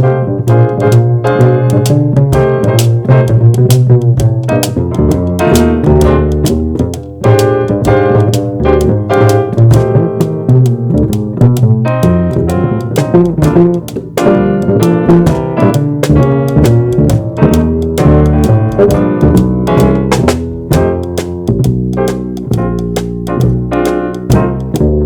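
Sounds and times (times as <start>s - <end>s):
drum kit beat: 0.0s - 25.0s
walking bass: 0.0s - 25.0s.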